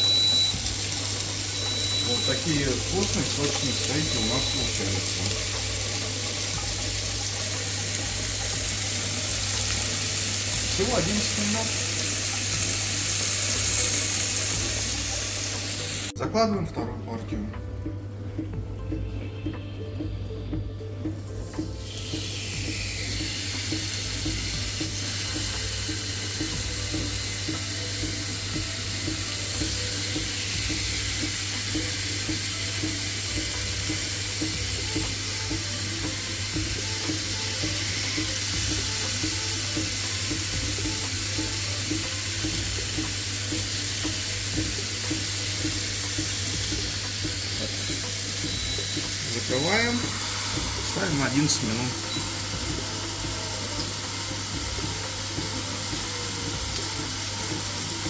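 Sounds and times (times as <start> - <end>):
meat sizzling on electric grill: 0.0 - 16.2, 21.0 - 58.0.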